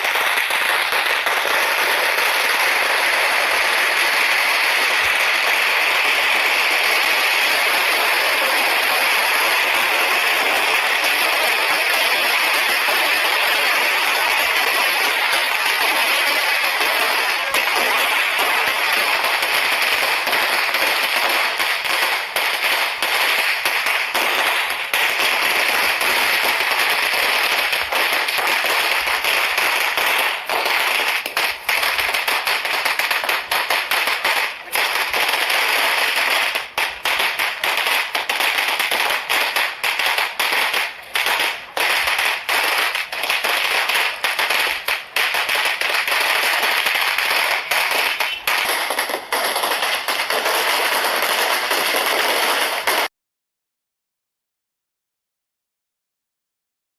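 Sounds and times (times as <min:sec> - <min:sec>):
firecrackers crackling: 0:00.0 - 0:53.1.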